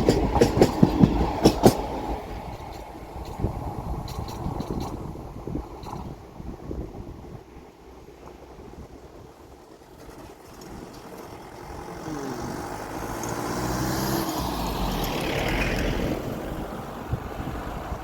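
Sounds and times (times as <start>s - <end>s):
train approaching: 0.0s - 18.0s.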